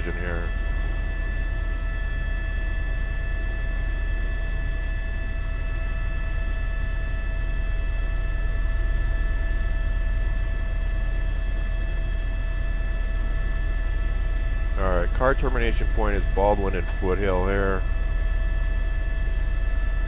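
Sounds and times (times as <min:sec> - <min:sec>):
helicopter rotor pulsing: 0:00.0 - 0:20.0
turbine whining: 0:00.0 - 0:20.0.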